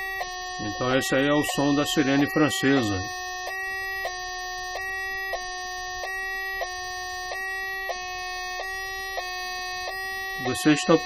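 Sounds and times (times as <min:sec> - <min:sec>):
two-tone electronic siren: 0:00.0 - 0:11.0.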